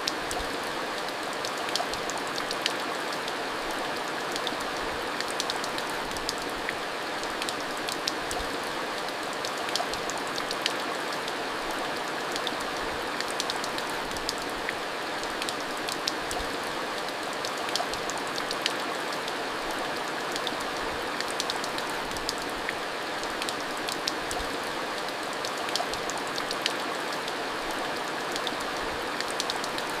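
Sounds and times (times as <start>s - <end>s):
raindrops ticking on a surface: 0.0s - 30.0s.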